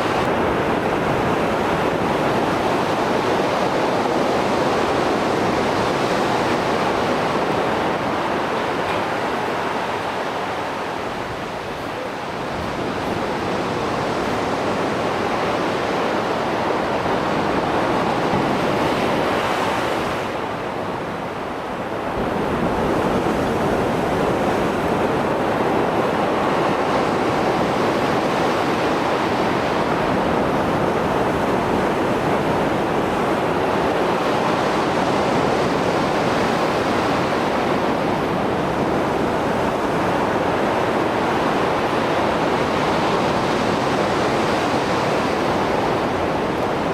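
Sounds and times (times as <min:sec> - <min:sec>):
waves breaking and washing: 0:00.0 - 0:46.9.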